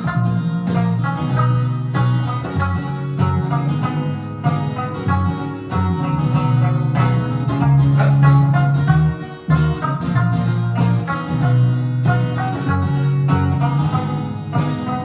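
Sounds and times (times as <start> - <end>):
plucked electric lute melody: 0.0 - 15.0.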